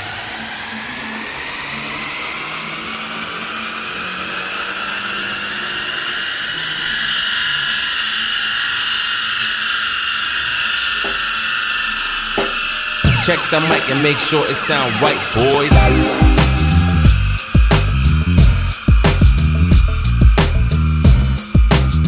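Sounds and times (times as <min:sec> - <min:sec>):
car engine whine on dynamometer: 0:00.0 - 0:22.0.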